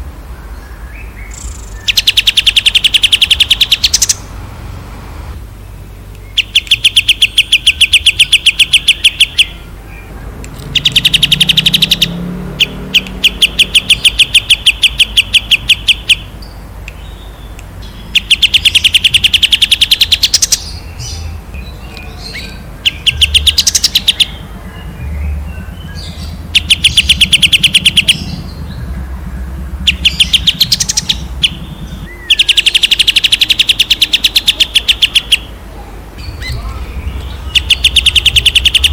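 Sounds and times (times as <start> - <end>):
songbird rapid trills: 1.0 - 4.4, 5.6 - 35.6, 36.2 - 38.9.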